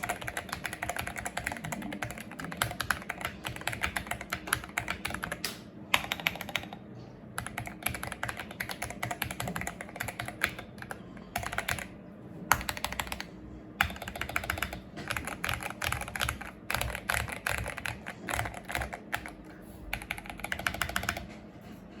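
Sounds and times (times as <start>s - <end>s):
mechanical keyboard typing: 0.0s - 21.4s.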